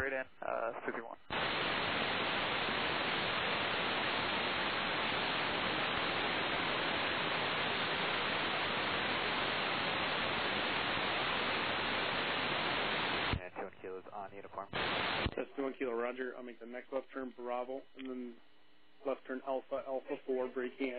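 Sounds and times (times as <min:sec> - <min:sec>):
radio static hiss: 0:00.0 - 0:20.9.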